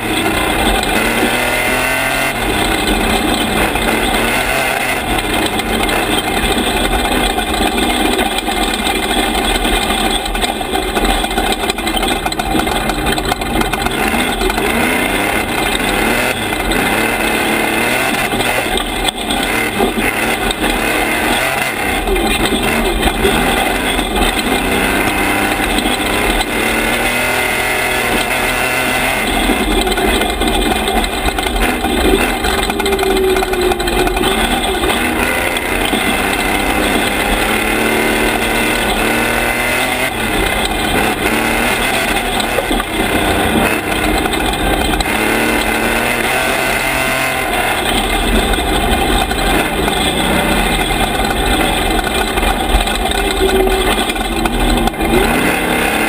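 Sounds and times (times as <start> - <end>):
race truck engine revving: 0.0 - 56.0
tyres on gravel: 0.0 - 56.0.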